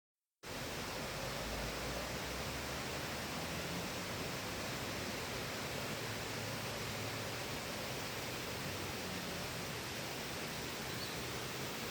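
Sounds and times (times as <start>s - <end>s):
steady hiss: 0.4s - 11.9s.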